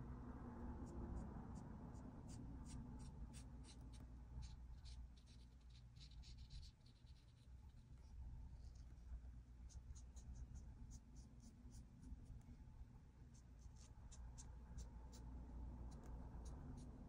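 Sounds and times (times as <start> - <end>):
marker scratching on paper: 0.8 - 12.4, 13.2 - 17.0.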